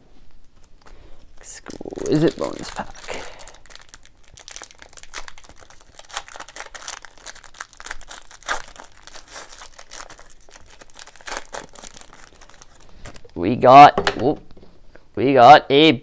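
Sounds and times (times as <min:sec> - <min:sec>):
foil wrapper crinkling: 0:00.4 - 0:13.4.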